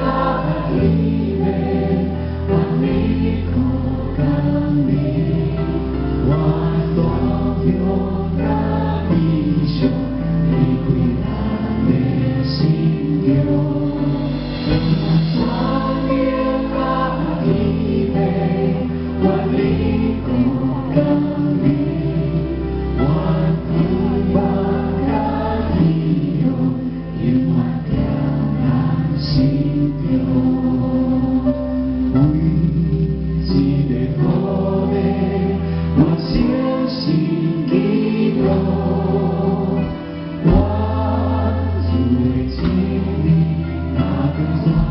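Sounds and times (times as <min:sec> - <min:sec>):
instrumental accompaniment: 0:00.0 - 0:44.9
large choir singing: 0:00.0 - 0:44.9.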